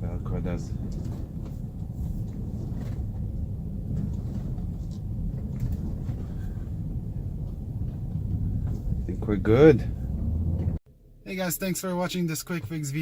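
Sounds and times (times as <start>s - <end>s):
road and drivetrain rumble: 0.0s - 11.2s.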